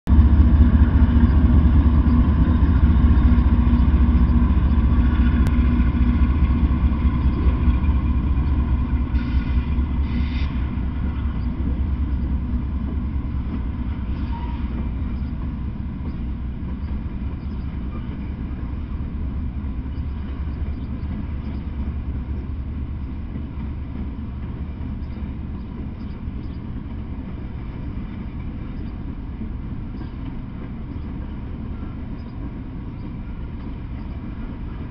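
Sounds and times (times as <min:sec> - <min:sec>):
diesel locomotive engine drone: 0:00.0 - 0:34.9
freight cars rumbling by: 0:00.1 - 0:34.9.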